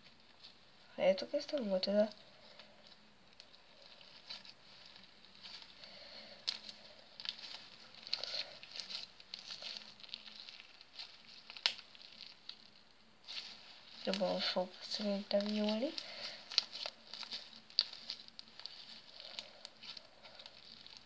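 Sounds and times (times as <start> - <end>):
slime squishing and crackling: 0.0 - 21.0.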